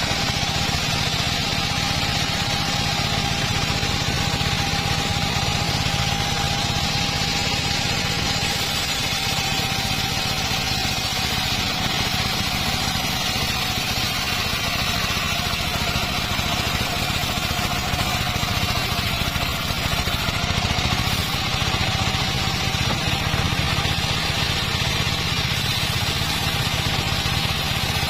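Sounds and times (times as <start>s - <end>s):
circular saw engine running: 0.0s - 28.0s.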